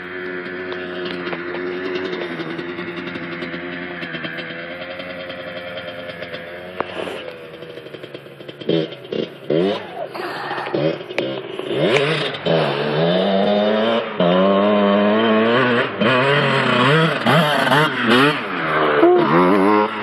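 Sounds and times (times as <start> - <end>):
motocross bike revving: 0.0 - 20.0.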